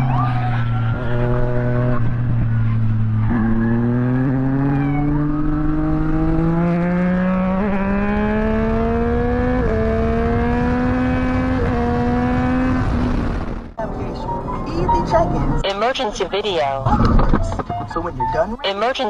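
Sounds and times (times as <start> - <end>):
vehicle engine accelerating hard: 0.0 - 15.6.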